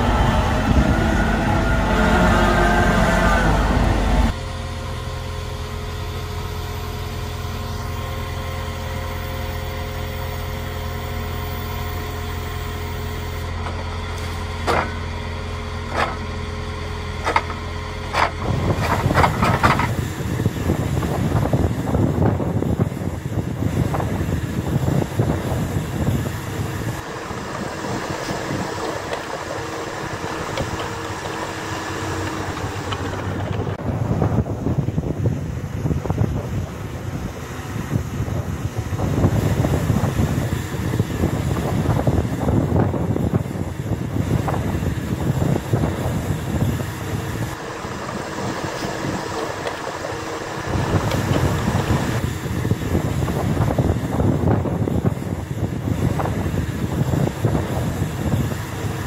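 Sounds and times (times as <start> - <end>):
digger engine running: 0.0 - 59.0
rough uneven engine noise: 0.0 - 59.0.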